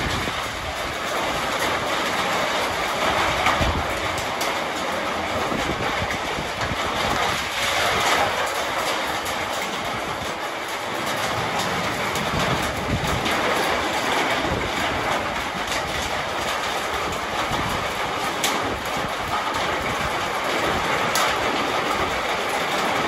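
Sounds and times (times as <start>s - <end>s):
heavy rain on a metal roof: 0.0s - 23.0s.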